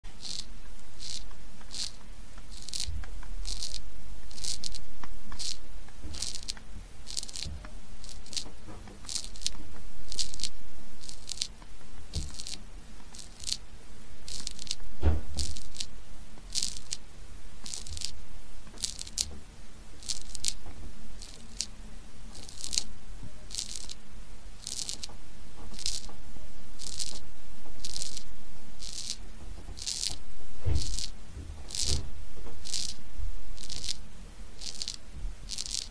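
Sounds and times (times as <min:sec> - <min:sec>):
snail rasping at food: 0:00.1 - 0:19.4, 0:20.0 - 0:24.0, 0:24.6 - 0:33.0, 0:33.6 - 0:35.9.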